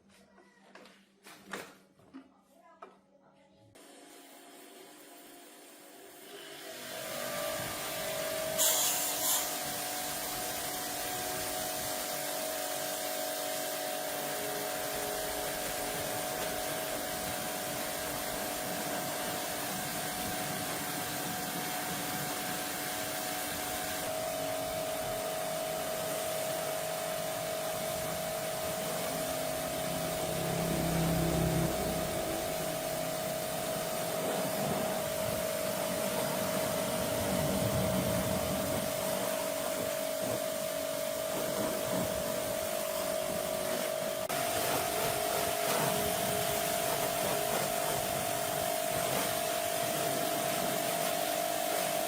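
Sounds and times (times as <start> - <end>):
hiss: 6.8 - 52.0.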